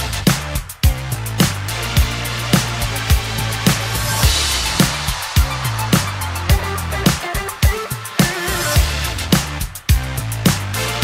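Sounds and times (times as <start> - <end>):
kick-drum beat: 0.0 - 10.7
bass line: 0.0 - 11.0
hi-hat: 0.0 - 11.0.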